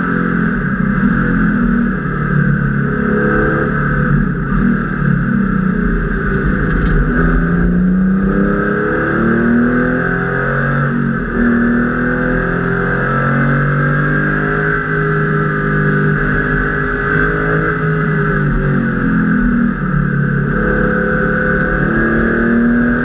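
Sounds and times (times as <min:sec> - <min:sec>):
car engine revving in cabin: 0:00.0 - 0:23.0.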